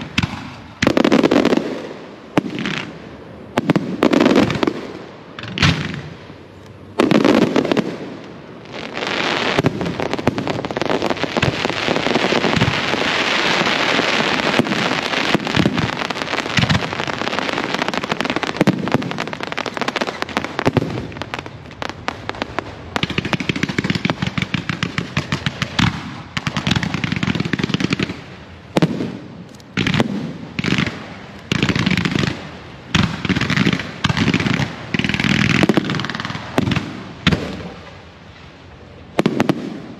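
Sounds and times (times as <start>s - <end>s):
fireworks crackling and popping: 0.0s - 39.9s.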